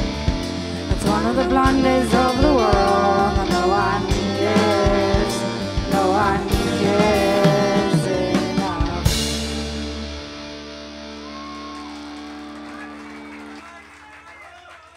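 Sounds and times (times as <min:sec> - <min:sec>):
live rock band playing: 0:00.0 - 0:13.6.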